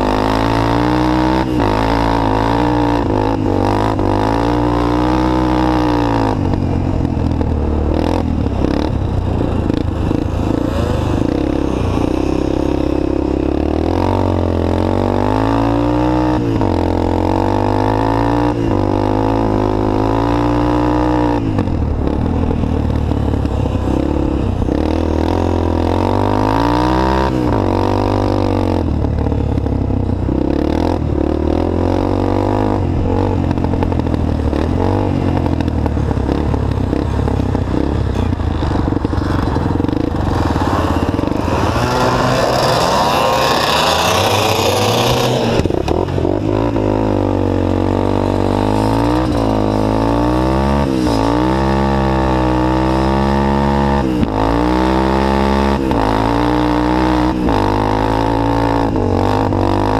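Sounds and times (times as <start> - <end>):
three-wheeler engine revving: 0.0 - 59.9.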